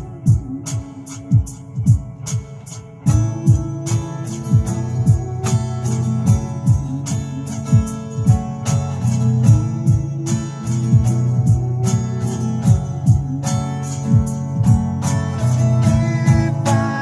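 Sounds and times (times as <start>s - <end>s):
steady beat: 0.0s - 17.0s
strummed acoustic guitar: 0.0s - 17.0s.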